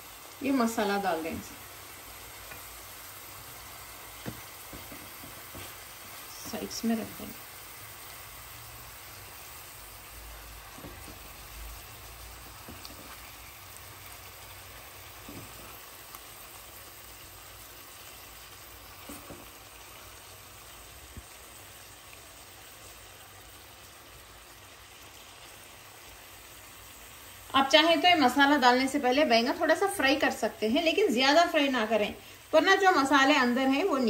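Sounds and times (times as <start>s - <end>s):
oil sizzling in a pot: 0.0s - 34.0s.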